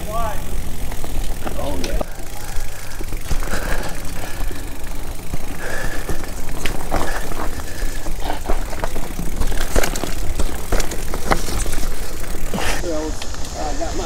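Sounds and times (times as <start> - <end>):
bike clicks and rattles: 0.0 - 14.0.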